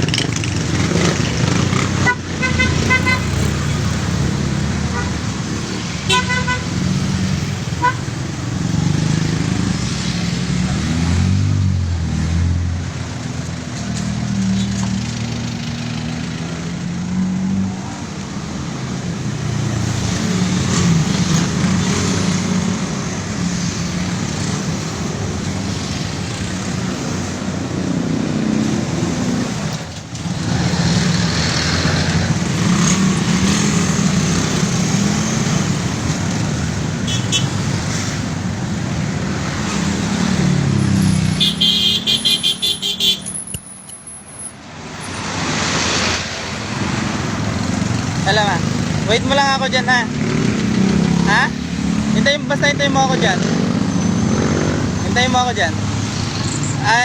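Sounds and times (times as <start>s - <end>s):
motorcycle engines running: 0.0s - 43.2s, 45.6s - 57.0s.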